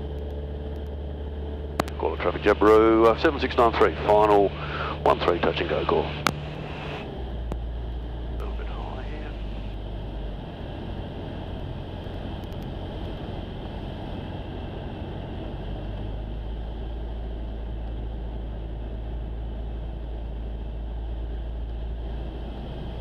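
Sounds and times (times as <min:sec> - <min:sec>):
aircraft engine and propeller drone: 0:00.0 - 0:23.0.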